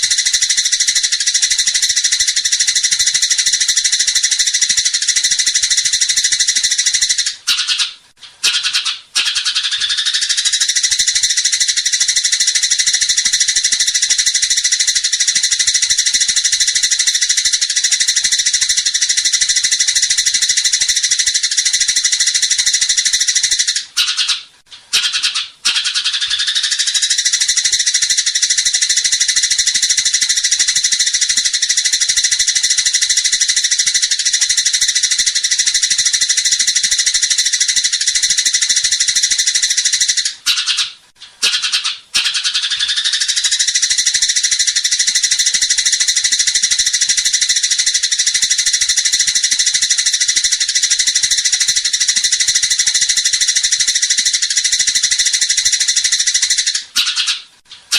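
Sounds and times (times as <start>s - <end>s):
songbird trilling: 0.0s - 57.5s.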